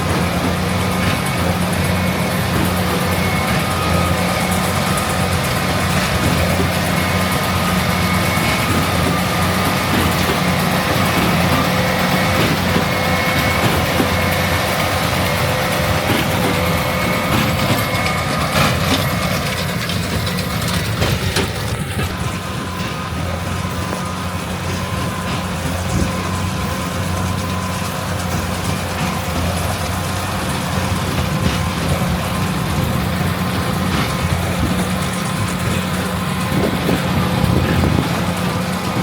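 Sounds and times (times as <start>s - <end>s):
diesel engines droning: 0.0s - 39.0s.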